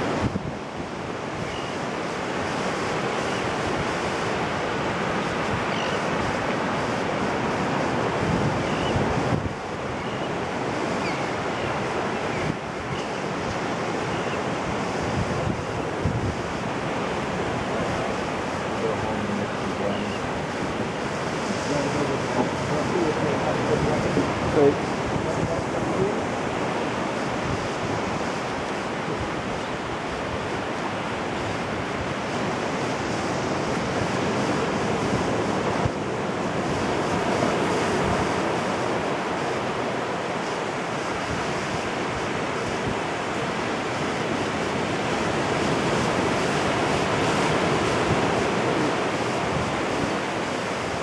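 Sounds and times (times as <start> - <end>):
small waves washing up beach: 0.0 - 51.0.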